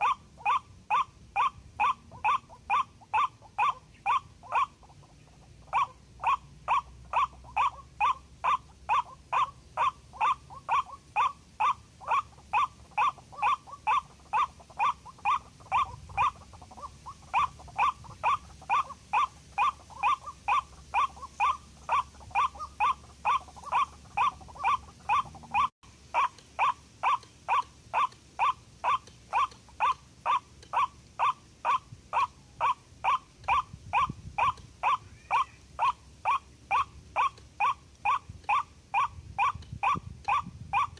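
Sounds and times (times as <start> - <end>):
waterhen harsh repeated call: 0.0 - 40.9.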